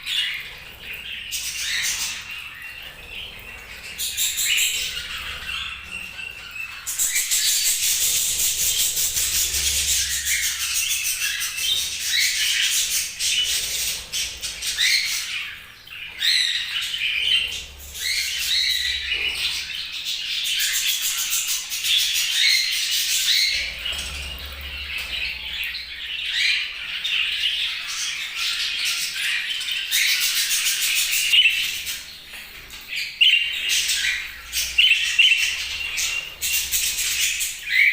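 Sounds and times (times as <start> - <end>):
budgerigars chirping and chattering: 0.0 - 37.9.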